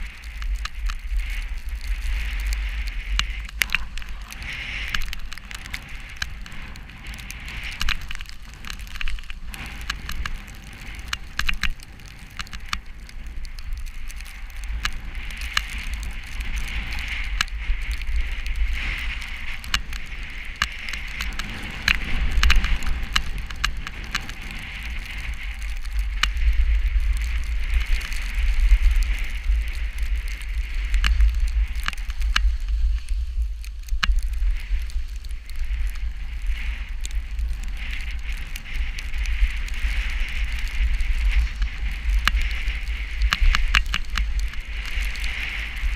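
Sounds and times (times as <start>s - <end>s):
small crackling ticks: 0.0s - 45.9s
wind buffeting microphone: 0.0s - 45.9s.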